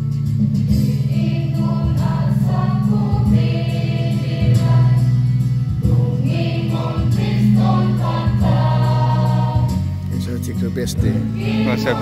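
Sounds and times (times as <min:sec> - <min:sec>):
choir singing a hymn: 0:00.8 - 0:10.0, 0:11.0 - 0:12.0.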